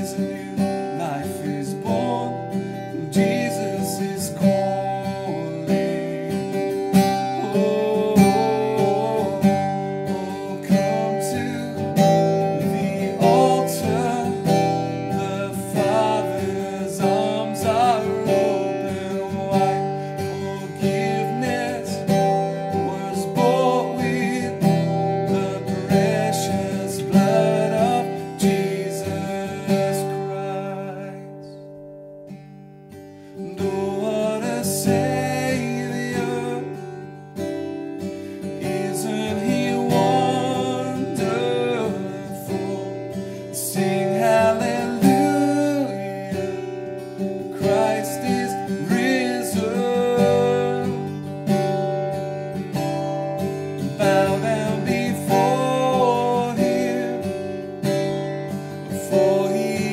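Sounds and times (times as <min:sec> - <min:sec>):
man singing: 0:00.0 - 0:31.7, 0:33.4 - 0:37.2, 0:38.2 - 0:51.8, 0:53.5 - 0:59.9
strummed acoustic guitar: 0:00.0 - 0:59.9.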